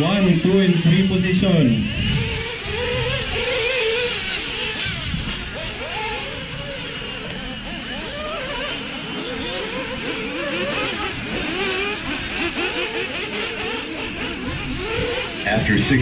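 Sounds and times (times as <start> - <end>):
rc buggy motors whining: 0.0 - 16.0.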